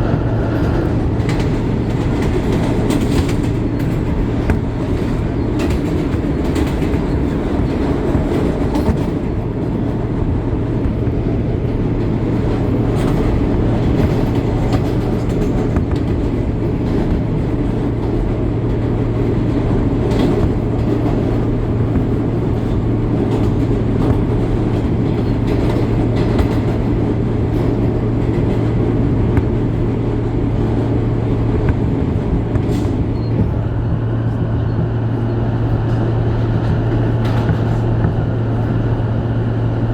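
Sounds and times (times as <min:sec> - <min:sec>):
track clicks: 0:00.0 - 0:39.2
subway car low hum: 0:00.0 - 0:39.9
wheel-on-rail rumble: 0:00.0 - 0:39.9.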